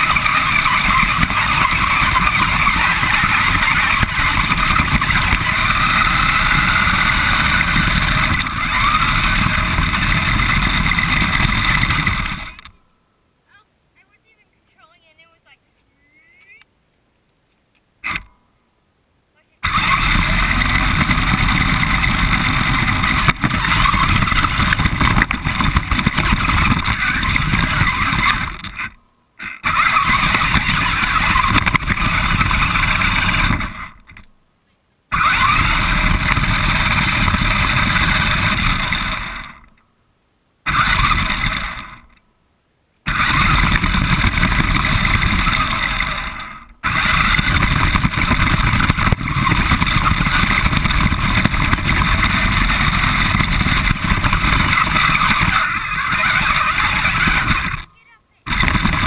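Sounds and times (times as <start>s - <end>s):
remote control car motor rumble: 0.0s - 12.8s, 18.0s - 18.4s, 19.6s - 34.4s, 35.1s - 39.9s, 40.6s - 42.2s, 43.0s - 59.0s.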